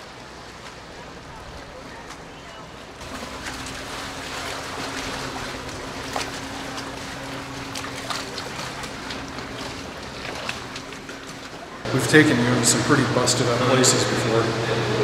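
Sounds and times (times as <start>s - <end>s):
low even hum: 0.0s - 15.0s.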